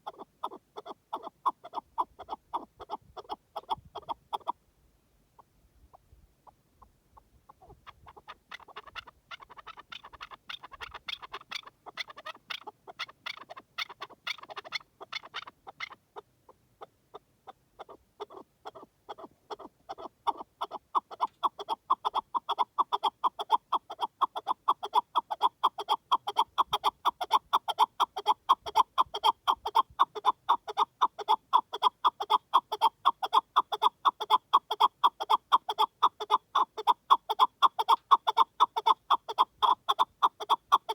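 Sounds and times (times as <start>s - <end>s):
partridge calling: 0.0s - 4.5s, 7.5s - 16.0s, 17.8s - 40.9s.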